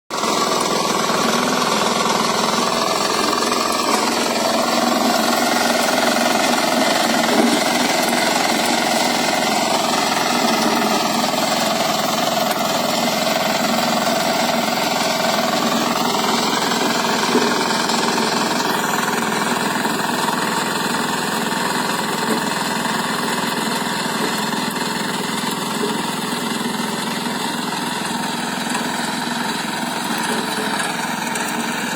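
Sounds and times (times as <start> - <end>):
power tiller engine running: 0.1 - 31.9.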